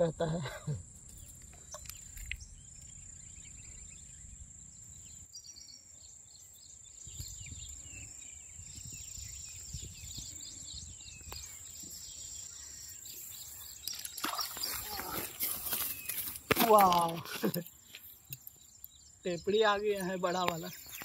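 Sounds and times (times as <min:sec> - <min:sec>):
insects trilling: 0:00.0 - 0:21.0
bird chirps: 0:01.0 - 0:21.0.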